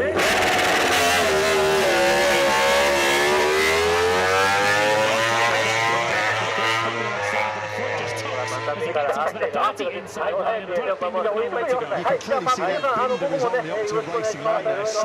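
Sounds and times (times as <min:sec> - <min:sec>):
racing motorcycle engine: 0:00.0 - 0:15.0.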